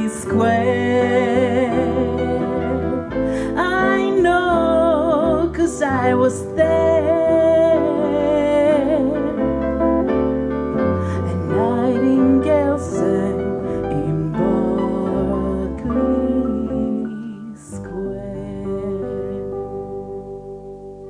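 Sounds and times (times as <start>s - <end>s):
electric bass line: 0.0s - 21.0s
electric guitar: 0.0s - 21.0s
electric keyboard chords: 0.0s - 21.0s.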